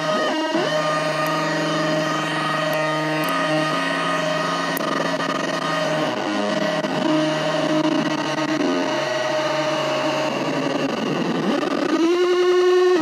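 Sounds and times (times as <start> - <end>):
synthesizer drone: 0.0 - 13.0.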